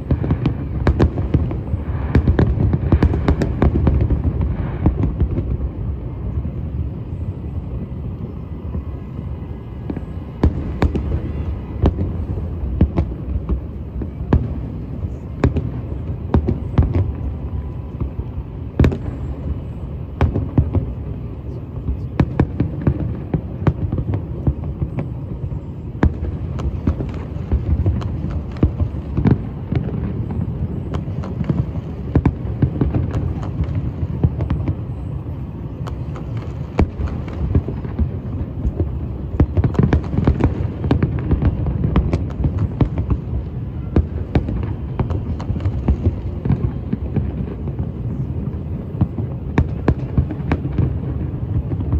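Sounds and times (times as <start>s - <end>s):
fireworks bangs and pops: 0.0s - 51.9s.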